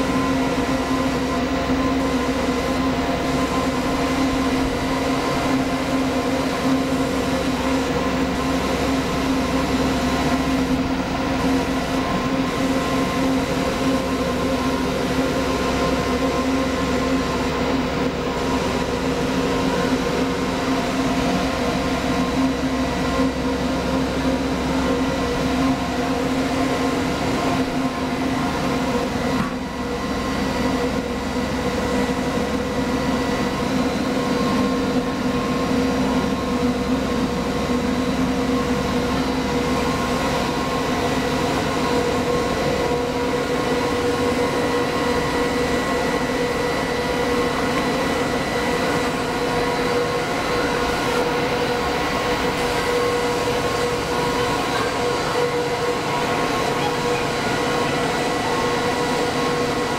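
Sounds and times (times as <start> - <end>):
machine drone: 0.0 - 59.9
steady whining tones: 0.0 - 59.9.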